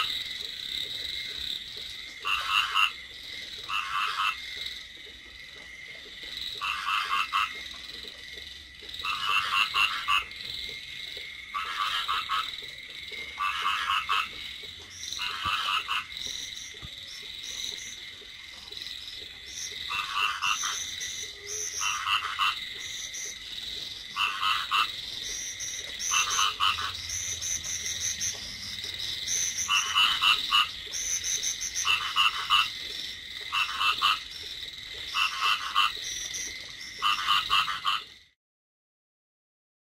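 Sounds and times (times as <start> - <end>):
frogs croaking: 0.0 - 38.4.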